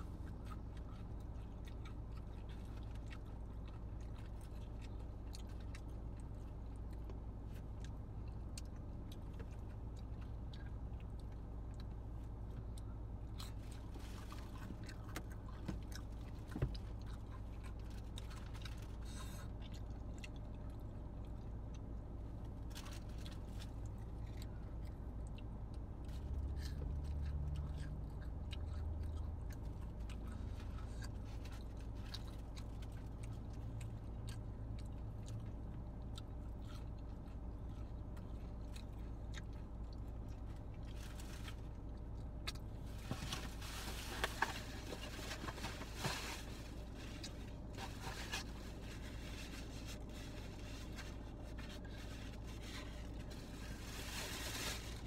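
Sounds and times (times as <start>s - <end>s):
person chewing crunchy chips: 0.0s - 21.9s, 22.6s - 55.0s
low hum inside car: 0.0s - 55.0s.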